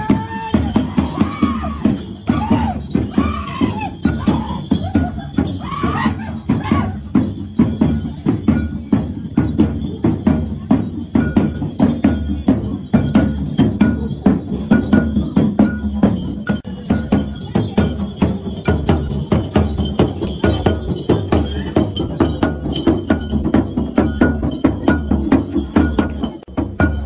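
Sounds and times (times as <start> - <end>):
fast percussion beat: 0.0 - 27.0.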